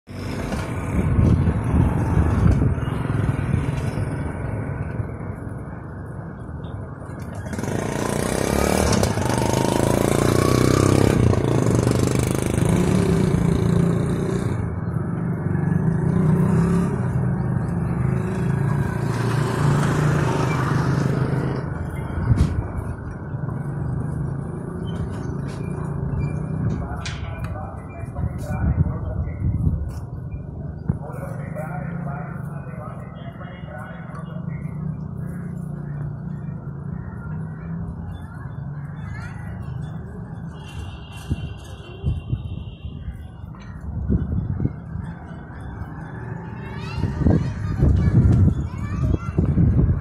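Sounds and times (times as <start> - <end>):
vehicle engines running: 0.1 - 50.0.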